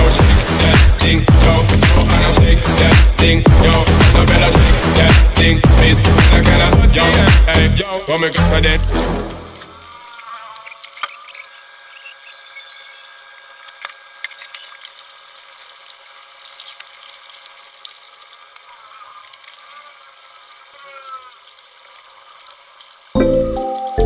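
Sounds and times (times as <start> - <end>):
water splashing and dripping: 0.0 - 11.4, 13.4 - 24.0.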